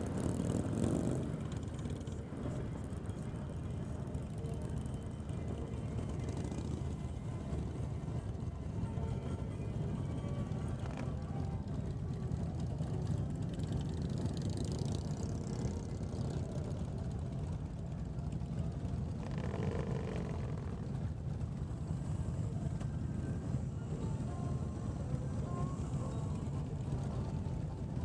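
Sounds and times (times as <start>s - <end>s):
motorcycles idling low rumble: 0.0s - 28.0s.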